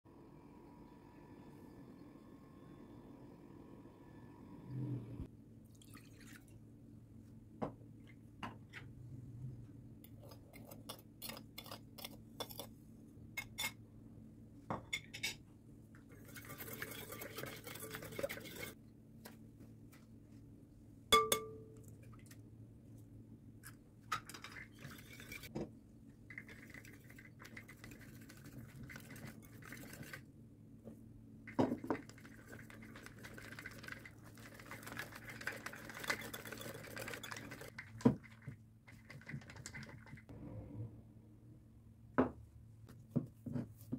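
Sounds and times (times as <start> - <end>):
faint steady hum: 0.1 - 43.3.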